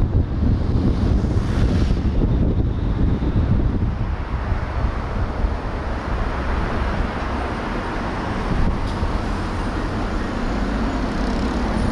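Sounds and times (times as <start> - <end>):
surrounding traffic: 0.0 - 11.9
vehicle engine and tyre noise: 0.0 - 11.9.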